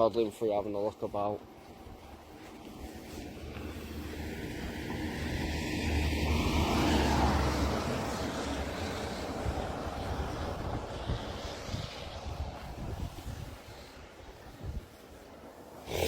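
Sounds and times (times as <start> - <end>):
motor vehicle passing: 1.5 - 14.8.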